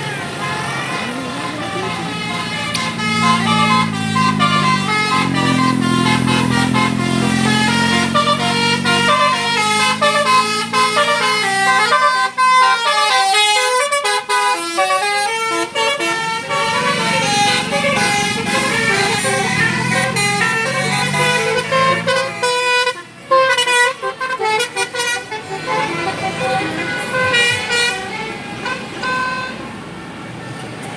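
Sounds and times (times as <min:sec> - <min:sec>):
bus musical horn tune: 0:00.0 - 0:29.8
bus engine drone: 0:00.0 - 0:30.9.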